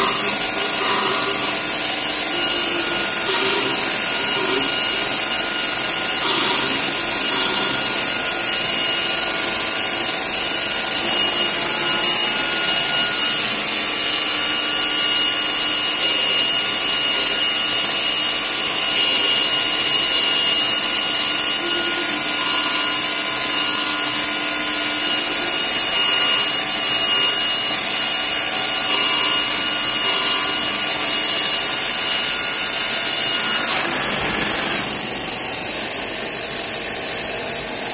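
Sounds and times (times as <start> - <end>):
loud machine noise: 0.0 - 37.9
router spindle high whine: 0.0 - 37.9.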